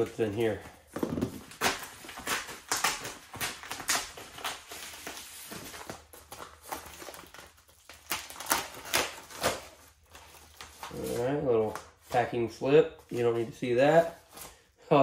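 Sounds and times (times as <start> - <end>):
plastic crinkling and tearing: 0.1 - 12.4.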